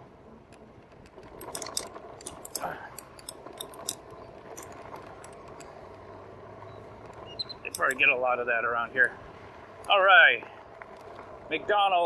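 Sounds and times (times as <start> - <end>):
bike clicking and rattling: 0.4 - 12.0.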